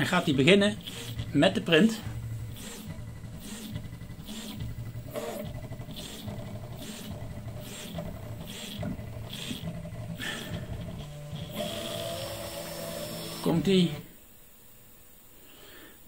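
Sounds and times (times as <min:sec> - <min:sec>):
stepper motors whirring: 0:00.0 - 0:14.1
steady machine hum: 0:00.0 - 0:14.7.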